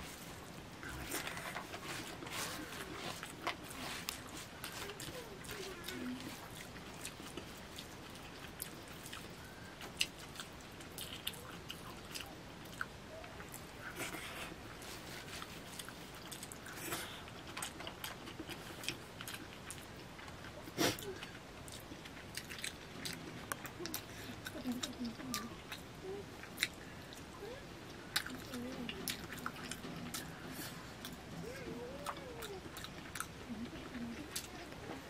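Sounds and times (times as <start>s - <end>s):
chewing and mouth sounds: 0.0s - 35.0s.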